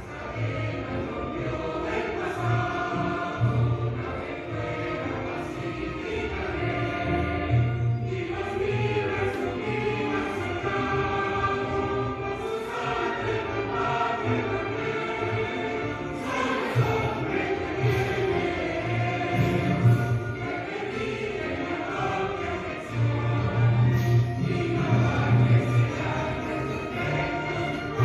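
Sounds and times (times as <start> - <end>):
choir singing: 0.0 - 28.0
instrumental accompaniment: 0.0 - 28.0.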